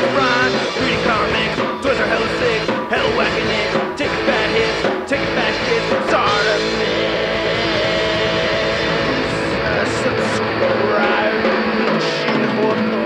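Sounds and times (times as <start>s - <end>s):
rock music with singing: 0.0s - 13.0s.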